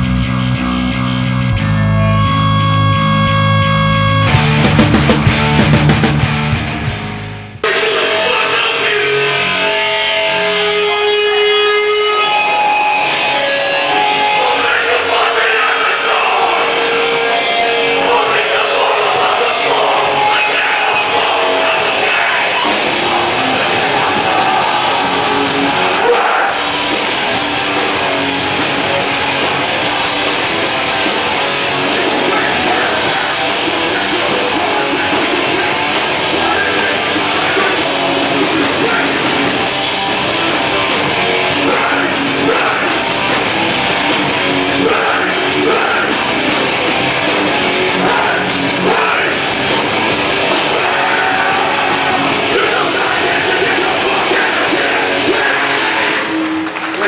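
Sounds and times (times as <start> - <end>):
bass guitar: 0.0 - 57.0
distorted electric guitar: 0.0 - 57.0
drums: 0.0 - 57.0
shouted vocals: 7.6 - 39.8, 40.5 - 57.0.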